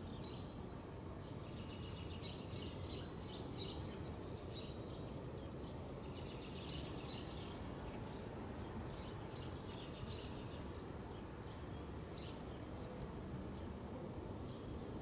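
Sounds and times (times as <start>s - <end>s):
songbirds twittering: 0.0s - 15.0s.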